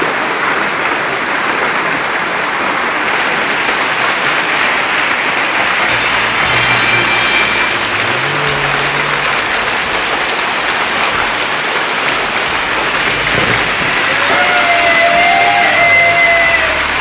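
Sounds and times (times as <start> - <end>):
floodwater rushing down street: 0.0 - 17.0.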